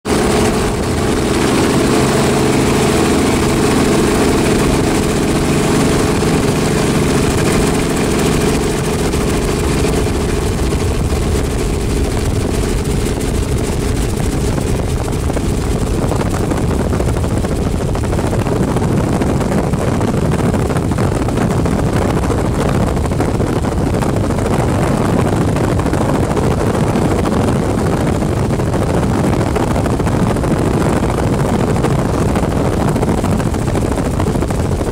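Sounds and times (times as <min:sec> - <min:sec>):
rough rushing noise: 0:00.0 - 0:34.9
helicopter engine and rotor: 0:00.1 - 0:34.9.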